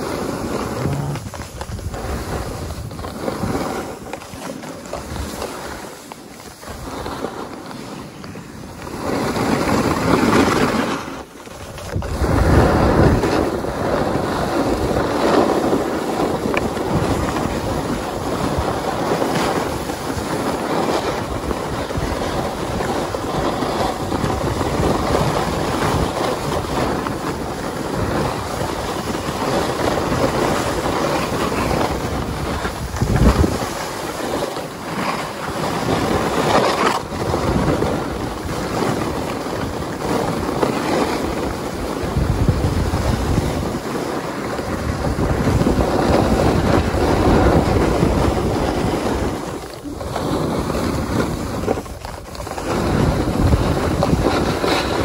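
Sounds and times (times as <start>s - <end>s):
wind buffeting microphone: 0.0s - 5.8s, 11.5s - 55.0s
snowboard scraping over snow: 0.0s - 55.0s.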